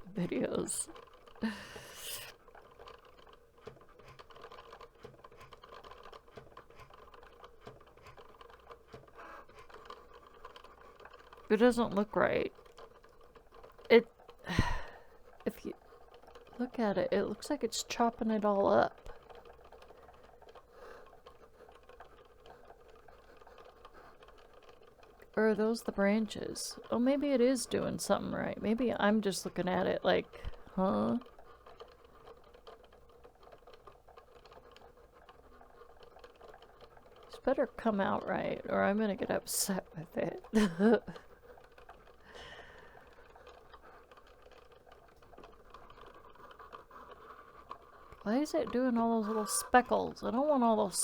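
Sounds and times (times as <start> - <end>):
blade carriage ticking: 0.0 - 51.0
cutting machine humming and clicking: 0.0 - 51.0.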